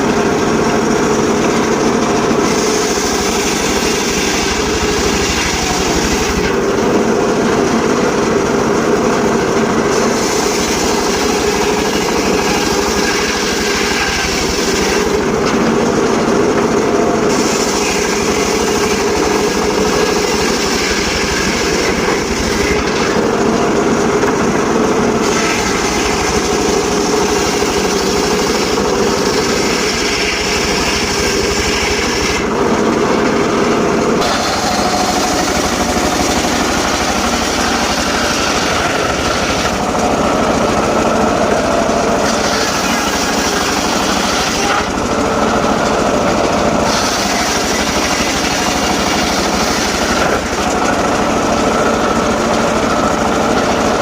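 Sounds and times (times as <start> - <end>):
sawmill cutting wood: 0.0 - 54.0.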